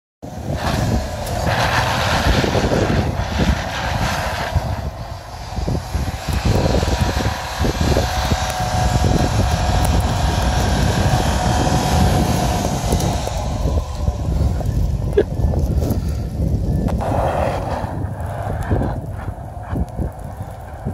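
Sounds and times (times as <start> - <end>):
car engine droning at high revs: 0.2 - 20.9
wheels spinning through snow: 0.2 - 20.9.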